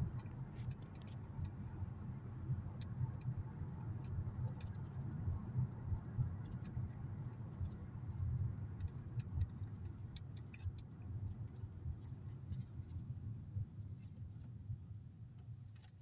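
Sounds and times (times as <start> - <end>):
engine and tyre road rumble: 0.0 - 16.0.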